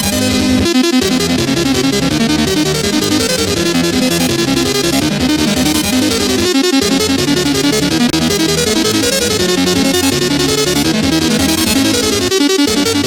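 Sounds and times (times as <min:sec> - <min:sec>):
fast electronic music: 0:00.0 - 0:13.0.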